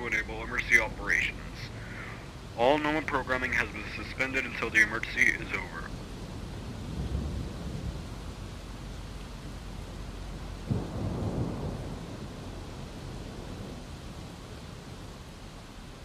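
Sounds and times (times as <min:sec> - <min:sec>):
thunderclap with low rumble: 0:00.0 - 0:15.4
steady rain: 0:00.0 - 0:16.0.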